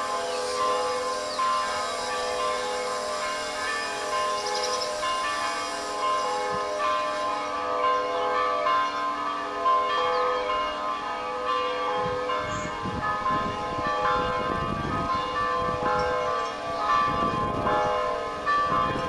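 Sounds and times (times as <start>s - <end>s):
church bells pealing: 0.0s - 19.0s.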